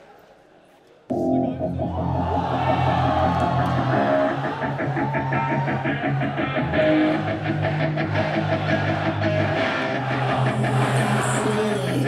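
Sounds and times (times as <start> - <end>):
rock music with electric guitar: 1.1 - 12.0.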